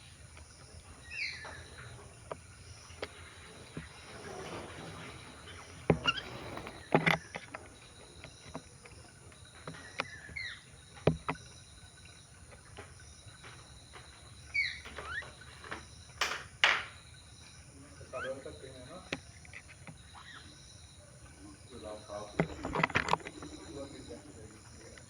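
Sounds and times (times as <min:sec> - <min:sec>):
beaks pecking and cracking food: 0:00.0 - 0:25.0
bird chirps: 0:00.0 - 0:25.0.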